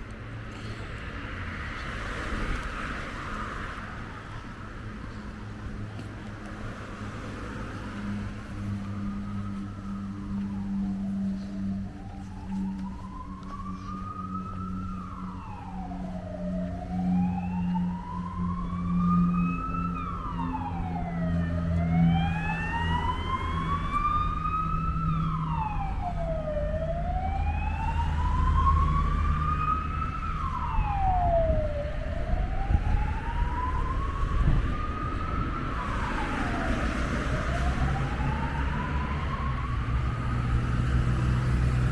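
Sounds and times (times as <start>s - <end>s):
street traffic rumble: 0.0s - 41.9s
emergency siren wailing: 1.4s - 41.9s.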